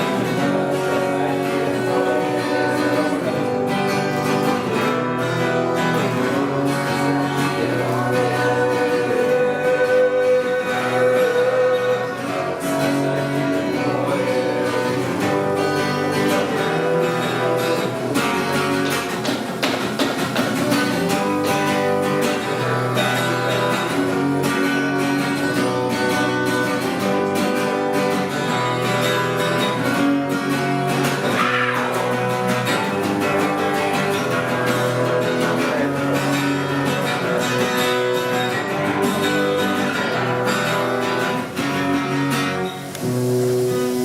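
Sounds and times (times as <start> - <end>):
acoustic guitar strumming and plucking: 0.0 - 44.0.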